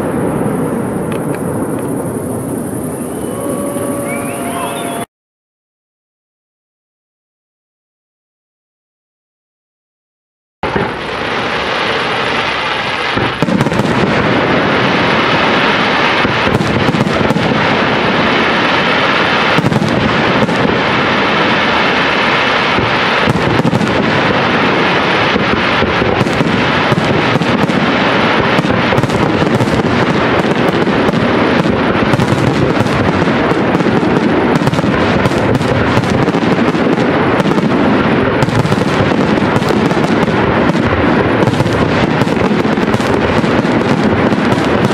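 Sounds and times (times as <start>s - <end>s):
fireworks bursting: 0.0s - 5.1s, 10.6s - 44.9s.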